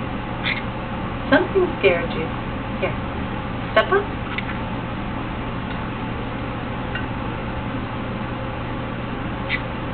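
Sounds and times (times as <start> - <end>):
background hum and hiss: 0.0 - 9.9.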